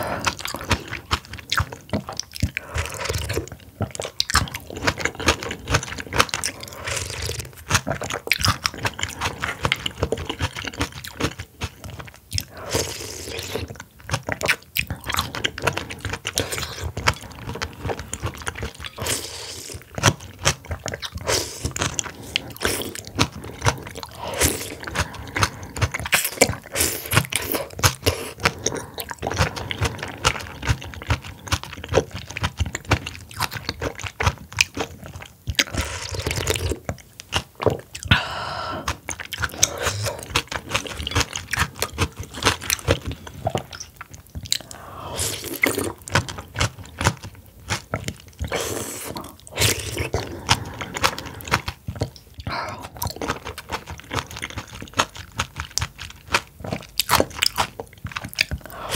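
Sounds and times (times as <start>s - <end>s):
mouth clicks and smacks: 0.0s - 58.9s
wet chewing and crunching: 0.0s - 58.9s.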